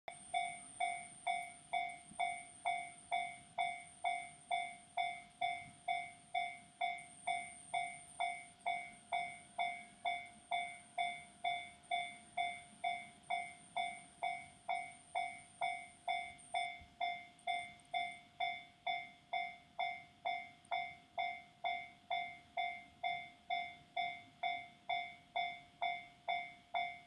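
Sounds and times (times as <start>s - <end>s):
level crossing warning bell: 0.1s - 27.0s.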